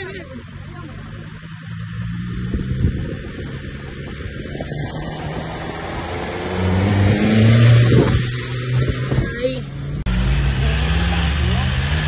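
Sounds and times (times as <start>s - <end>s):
road and wind noise: 0.0s - 12.0s
vehicle engine hum: 0.0s - 12.0s.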